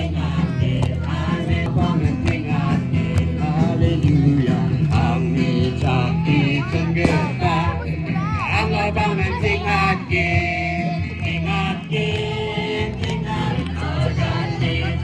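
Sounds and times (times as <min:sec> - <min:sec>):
song with singing over beat: 0:00.0 - 0:15.0.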